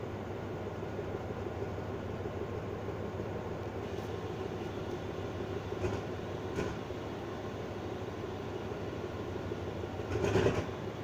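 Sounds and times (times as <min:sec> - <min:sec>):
locomotive idling hum: 0:00.0 - 0:11.0.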